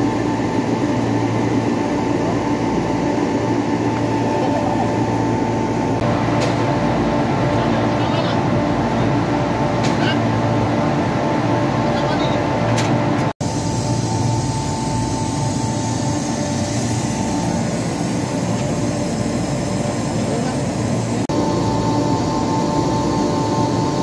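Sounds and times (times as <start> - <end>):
machinery drone with whine: 0.0 - 24.0.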